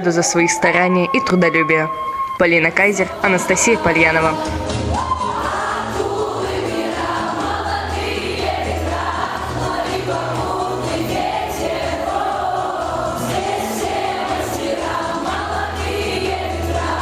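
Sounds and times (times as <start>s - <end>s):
song with choir-like vocals: 2.2s - 17.0s
steady bass line: 3.1s - 17.0s.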